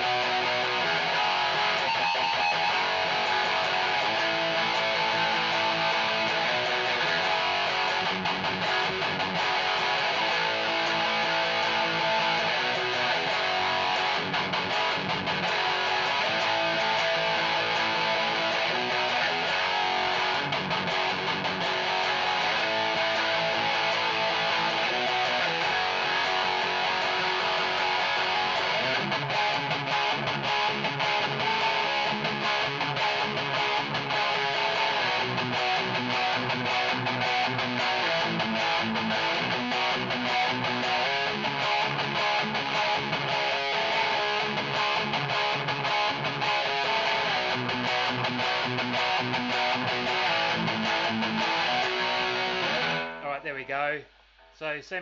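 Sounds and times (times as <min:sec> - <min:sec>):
distorted electric guitar riff: 0:00.0 - 0:55.0.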